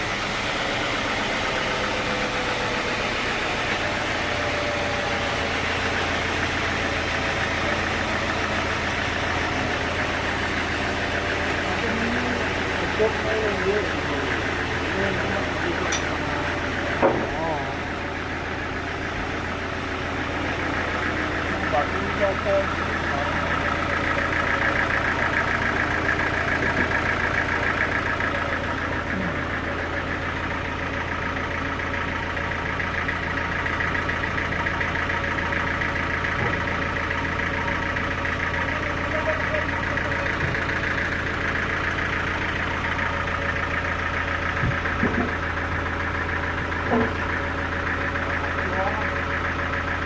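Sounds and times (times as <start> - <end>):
sawmill engine idling: 0.0 - 50.0.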